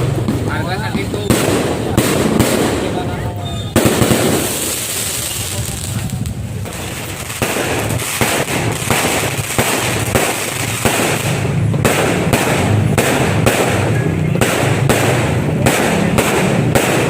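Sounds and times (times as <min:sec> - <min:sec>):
fireworks bangs and crackles: 0:00.0 - 0:17.0
sharp firecracker cracks: 0:00.0 - 0:17.0.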